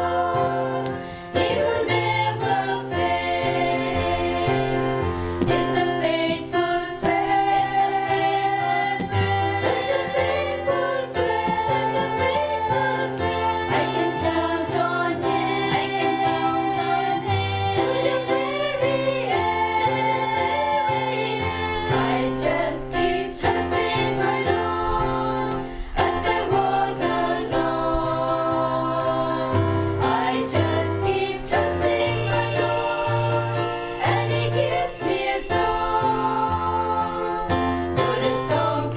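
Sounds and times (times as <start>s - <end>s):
group of voices singing: 0.0s - 38.9s.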